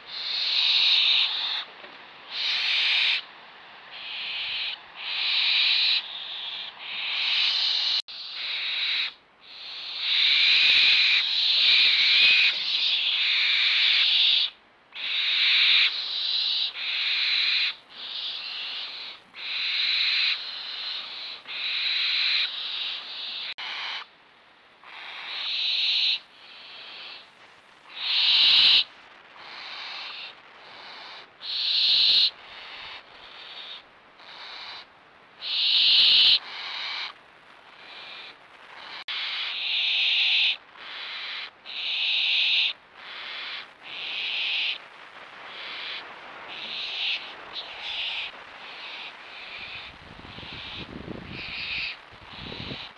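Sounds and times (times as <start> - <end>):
young owls hissing begging calls: 0.0 - 1.7, 2.3 - 3.3, 3.9 - 24.1, 24.8 - 52.9.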